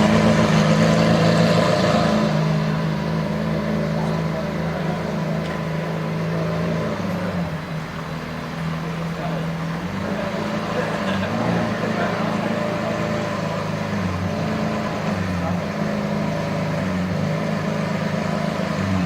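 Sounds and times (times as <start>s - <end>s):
car engine low drone: 0.0s - 19.0s.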